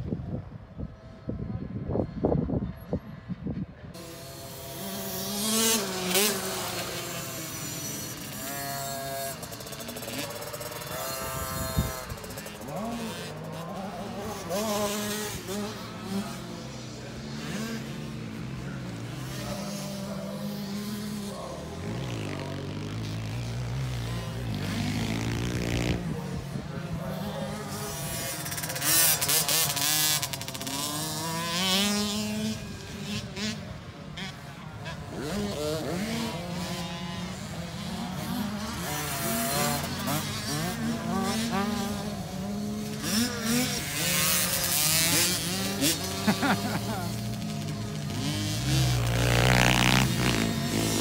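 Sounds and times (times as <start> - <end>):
dirt bike engines revving: 0.3 - 51.0.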